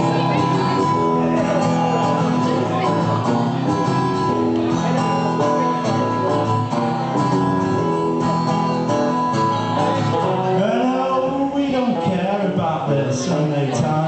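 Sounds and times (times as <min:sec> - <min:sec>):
strummed guitar chords: 0:00.0 - 0:14.0.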